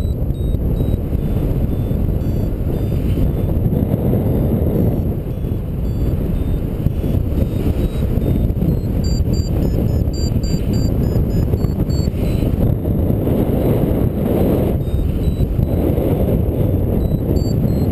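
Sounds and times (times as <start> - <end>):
short high variometer beeps: 0.0 - 17.9
wind rush on microphone: 0.0 - 17.9.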